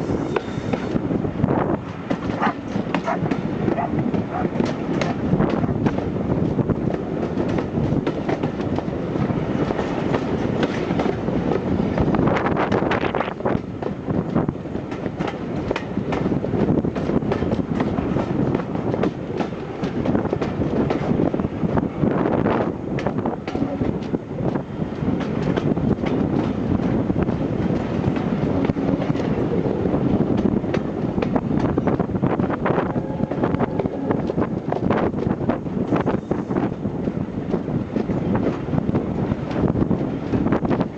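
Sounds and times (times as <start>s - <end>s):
steam train rolling by: 0.0s - 40.9s.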